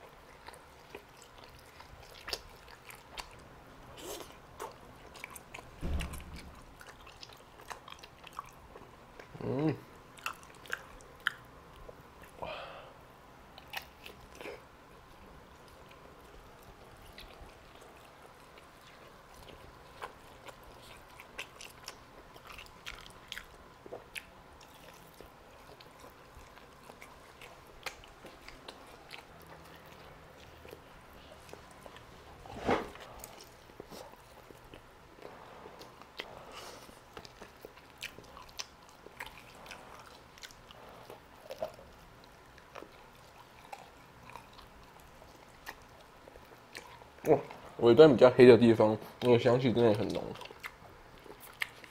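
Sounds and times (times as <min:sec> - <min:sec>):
person chewing food: 0:00.0 - 0:12.7, 0:13.5 - 0:47.8, 0:49.1 - 0:51.9.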